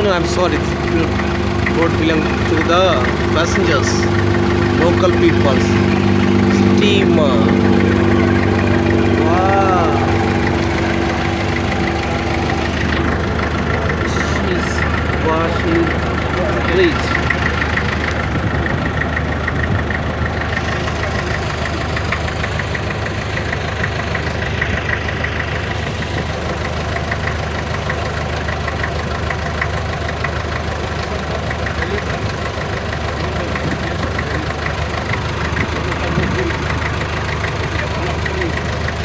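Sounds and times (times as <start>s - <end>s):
motor boat engine humming: 0.0s - 39.0s.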